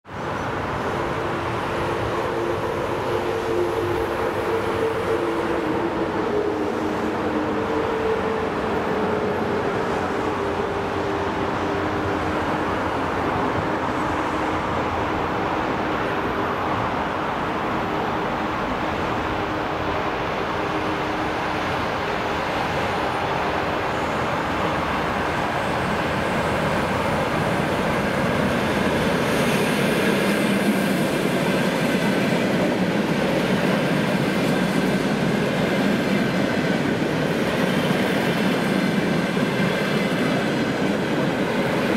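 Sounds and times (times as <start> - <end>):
electric train passing at speed: 0.0 - 41.9.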